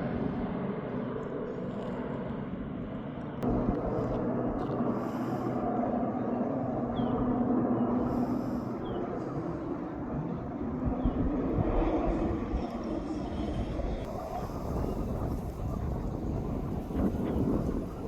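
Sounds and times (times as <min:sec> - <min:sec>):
aeroplane engine droning: 0:00.0 - 0:18.0
low rumbling gusts: 0:03.4 - 0:18.0.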